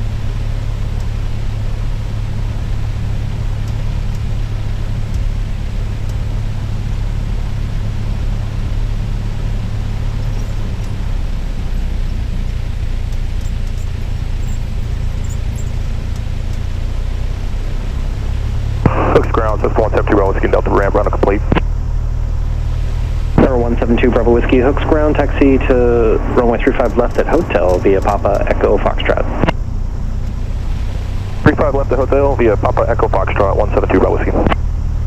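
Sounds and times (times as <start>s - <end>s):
piston aircraft engine running: 0.0s - 35.0s.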